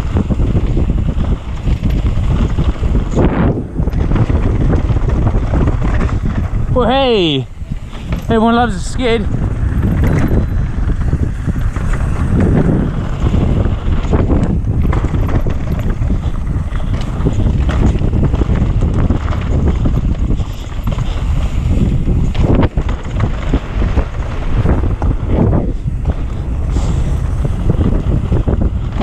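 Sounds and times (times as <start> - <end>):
bike rattling over bumps: 0.0 - 29.0
bike tyres rolling on gravel: 0.0 - 29.0
wind buffeting microphone: 0.0 - 29.0.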